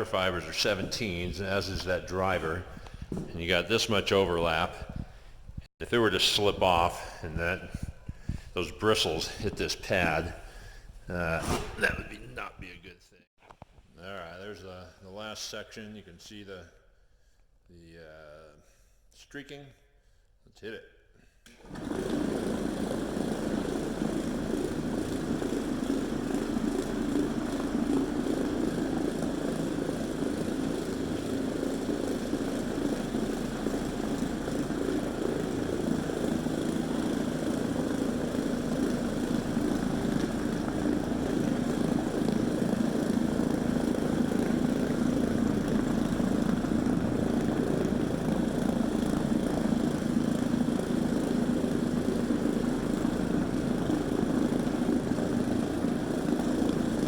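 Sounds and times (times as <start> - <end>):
floor machine motor running: 0.0 - 10.4, 21.6 - 57.0.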